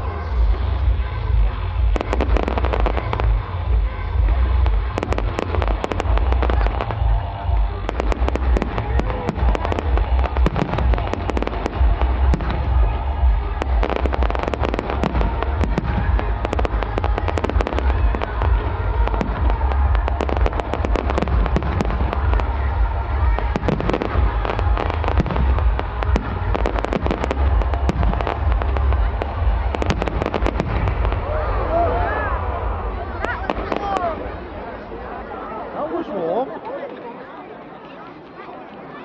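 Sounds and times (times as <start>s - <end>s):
deep rumble: 0.0s - 34.5s
fireworks bangs and crackles: 0.0s - 34.5s
music playing: 0.0s - 36.4s.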